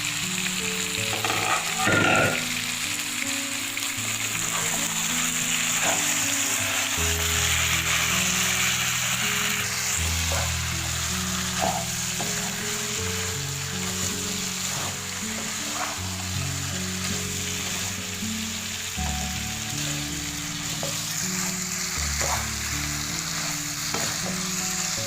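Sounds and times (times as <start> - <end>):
chicken sizzling in a pan: 0.0 - 25.0
music of slow held notes: 0.0 - 25.0.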